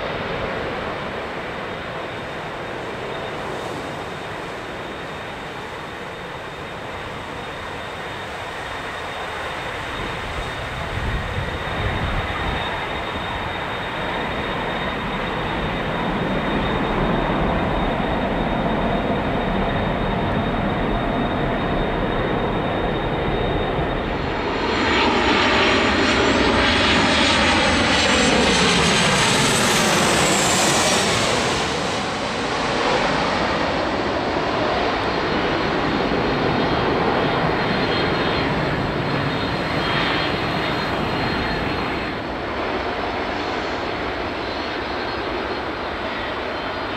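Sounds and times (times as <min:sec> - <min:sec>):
distant jet engine roar: 0:00.0 - 0:46.9
jet airliner passing overhead: 0:00.0 - 0:46.9.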